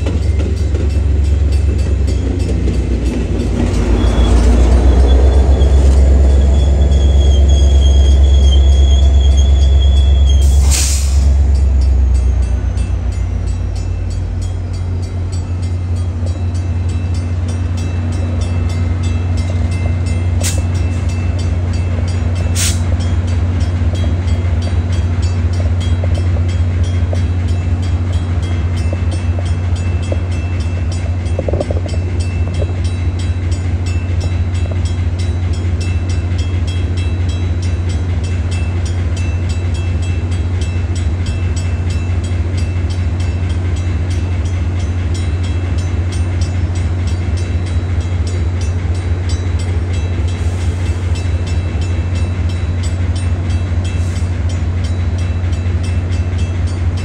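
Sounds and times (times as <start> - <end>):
locomotive diesel engine rumbling: 0.0 - 57.0.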